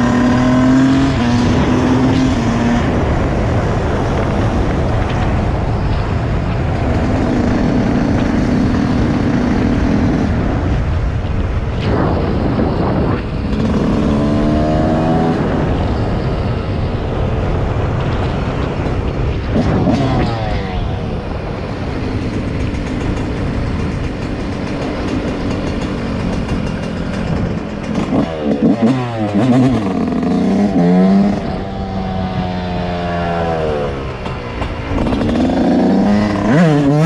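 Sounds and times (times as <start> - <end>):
motorcycle engine running: 0.0 - 37.0
steady rushing noise: 0.0 - 37.0.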